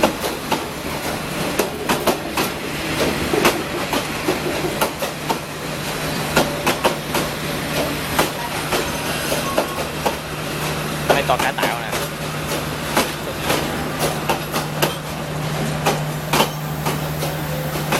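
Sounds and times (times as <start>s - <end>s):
train engine hum: 0.0s - 17.9s
train wheels clacking on rail joints: 0.0s - 17.9s.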